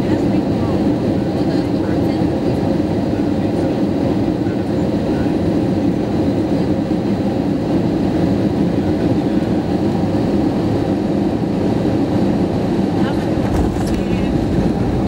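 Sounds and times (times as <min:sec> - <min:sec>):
airflow over the wing: 0:00.0 - 0:15.0
jet engine hum: 0:00.0 - 0:15.0.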